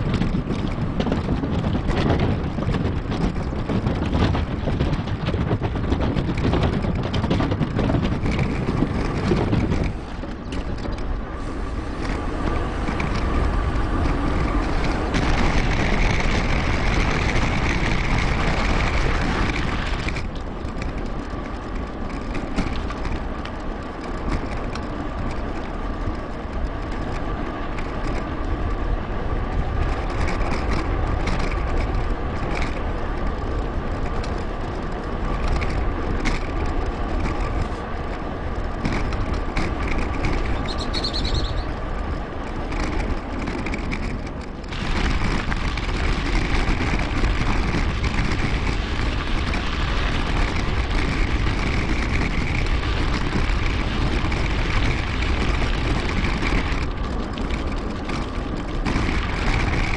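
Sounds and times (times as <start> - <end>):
bike tyre and road noise: 0.0 - 59.9
wind buffeting microphone: 0.0 - 59.9.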